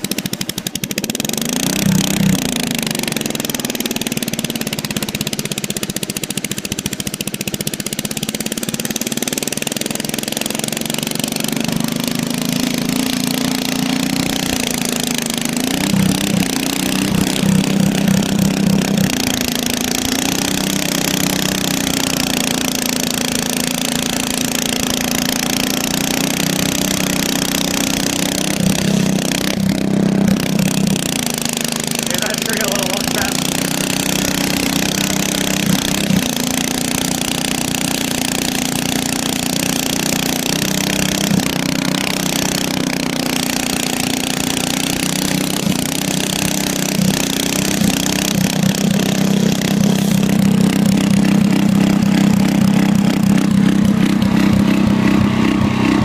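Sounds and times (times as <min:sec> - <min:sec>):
riding lawnmower engine running: 0:00.0 - 0:56.0.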